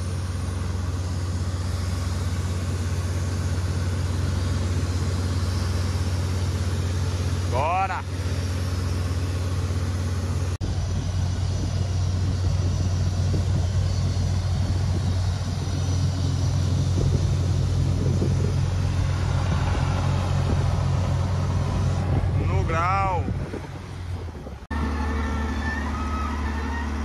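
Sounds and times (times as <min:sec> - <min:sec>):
drilling rig engine droning: 0:00.0 - 0:27.0.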